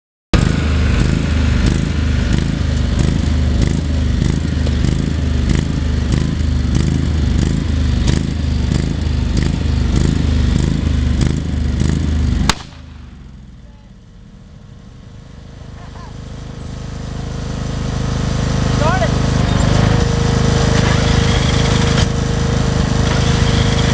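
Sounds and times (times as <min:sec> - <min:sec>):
lawn mower engine running: 0:00.3 - 0:23.9.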